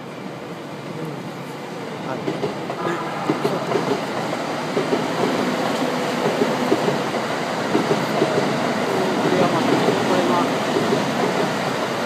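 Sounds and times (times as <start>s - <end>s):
electric train rumbling past: 0.0s - 12.0s
wheels clacking over rail joints: 2.2s - 12.0s.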